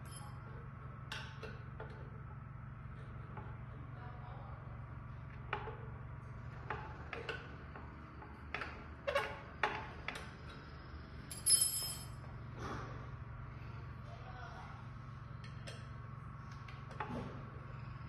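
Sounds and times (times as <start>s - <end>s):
steady low hum: 0.0s - 9.0s, 9.9s - 18.0s.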